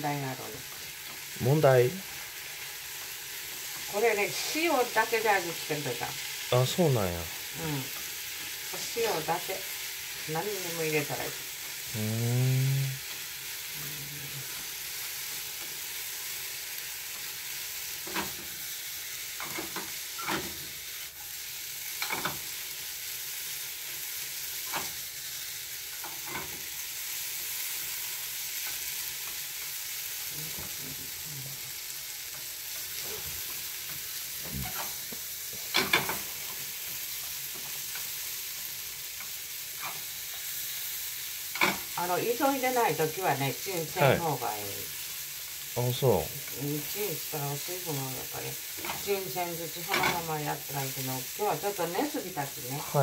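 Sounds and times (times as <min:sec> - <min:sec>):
vegetables sizzling in a frying pan: 0:00.0 - 0:53.0.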